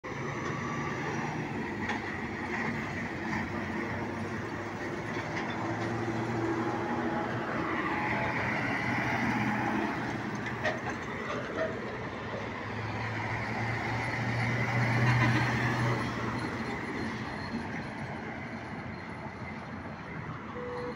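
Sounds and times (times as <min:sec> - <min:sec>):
trucks driving past: 0:00.1 - 0:20.9.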